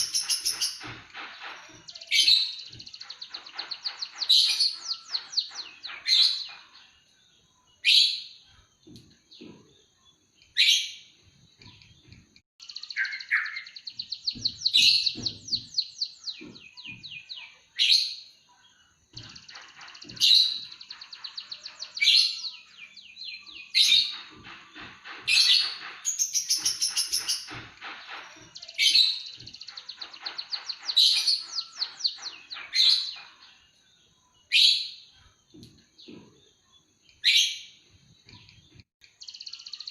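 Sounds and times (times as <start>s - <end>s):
songbird trilling and chirping: 0.0s - 39.9s.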